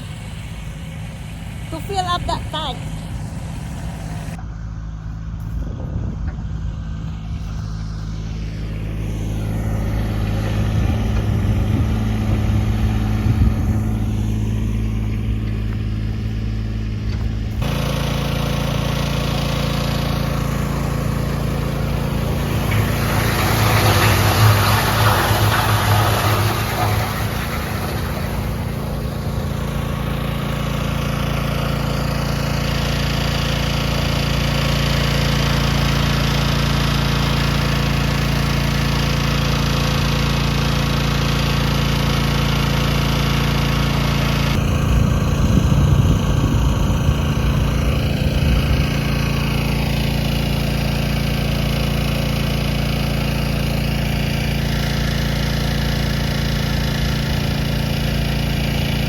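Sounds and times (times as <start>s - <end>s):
water pump engine running: 0.0s - 59.0s.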